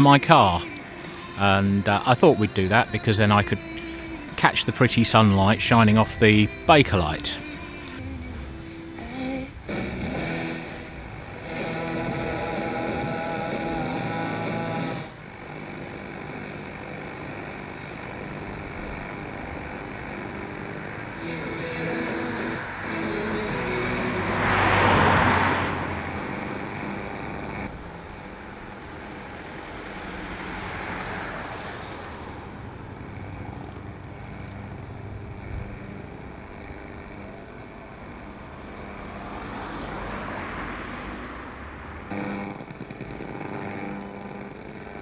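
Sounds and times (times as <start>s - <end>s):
cars passing: 0.0s - 45.0s.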